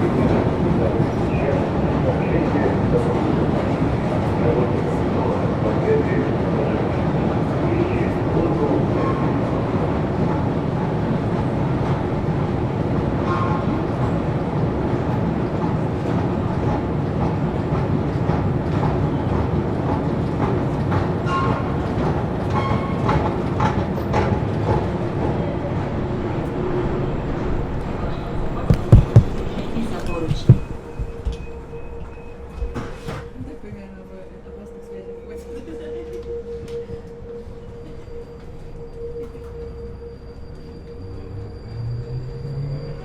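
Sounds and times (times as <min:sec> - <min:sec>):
train wheels rumbling on rails: 0:00.0 - 0:34.6.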